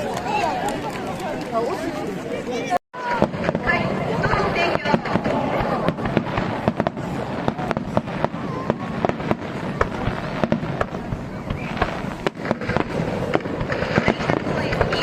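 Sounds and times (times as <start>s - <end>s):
fireworks bangs and crackles: 3.0s - 15.0s.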